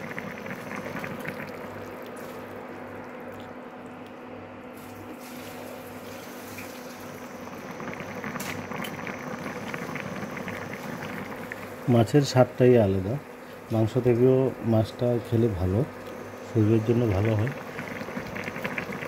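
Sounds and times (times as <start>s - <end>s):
curry bubbling in a pan: 0.0s - 4.0s, 5.0s - 14.5s, 15.7s - 19.0s.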